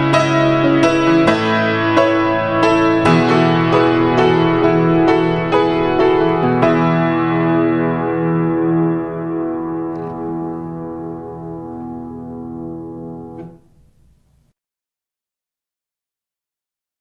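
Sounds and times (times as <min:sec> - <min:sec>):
slow piano music: 0:00.0 - 0:14.5.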